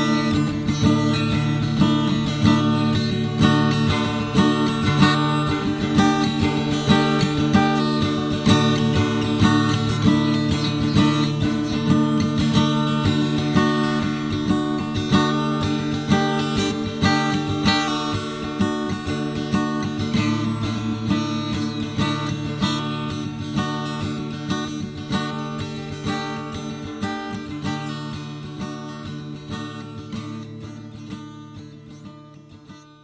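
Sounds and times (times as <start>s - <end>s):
acoustic guitar music: 0.0s - 33.0s.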